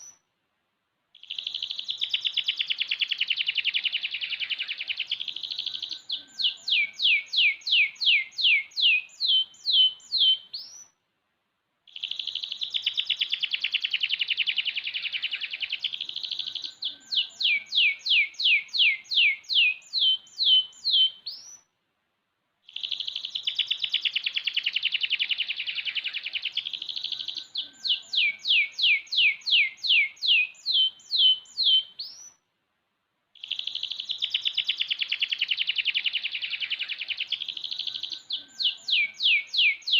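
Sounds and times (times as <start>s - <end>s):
canary singing: 1.2s - 11.0s, 11.9s - 21.7s, 22.7s - 32.4s, 33.4s - 39.9s.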